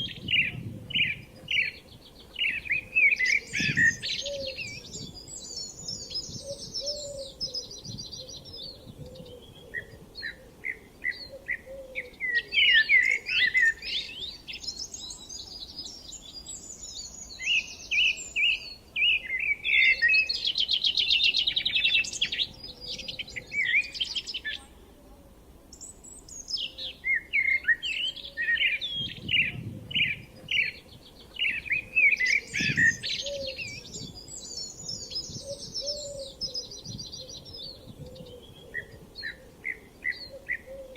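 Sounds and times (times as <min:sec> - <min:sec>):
songbirds singing: 0:00.0 - 0:25.0, 0:25.6 - 0:40.9.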